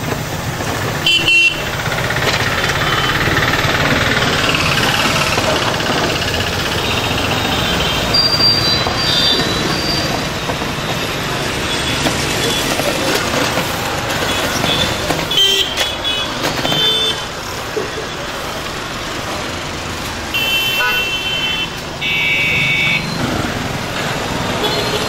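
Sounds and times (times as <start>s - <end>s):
street traffic passing: 0.0s - 25.0s.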